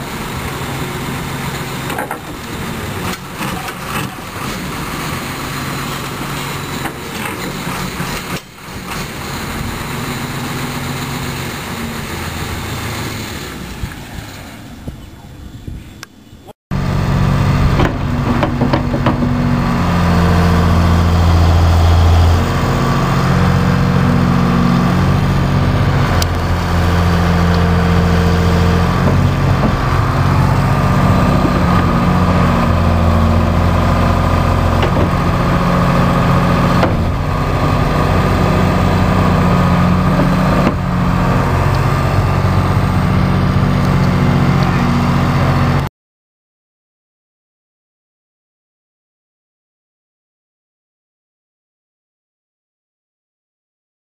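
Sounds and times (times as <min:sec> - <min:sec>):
excavator diesel engine digging: 0:00.0 - 0:15.0, 0:16.7 - 0:45.9.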